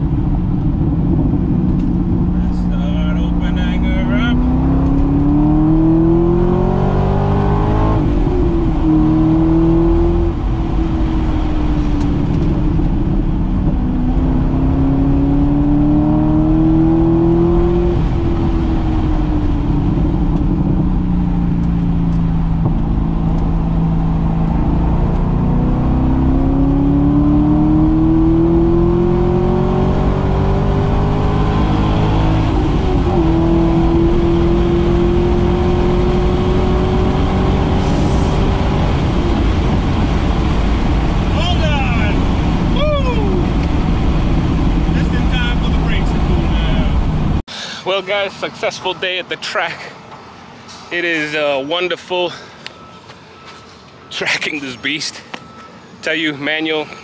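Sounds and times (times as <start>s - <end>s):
car engine accelerating hard: 0.0s - 47.5s.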